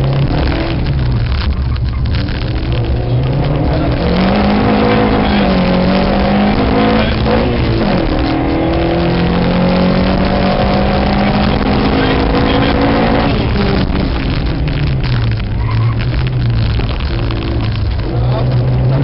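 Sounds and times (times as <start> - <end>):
rally car engine revving: 0.0 - 19.0
tyre and road noise: 0.0 - 19.0.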